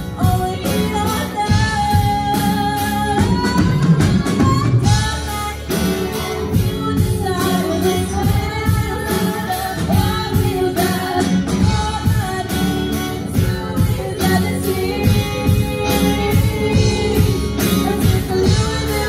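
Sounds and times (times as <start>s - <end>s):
drum kit: 0.0s - 19.0s
electric guitar: 0.0s - 19.0s
woman singing backing vocals: 0.0s - 19.0s
woman singing lead vocals: 0.0s - 19.0s.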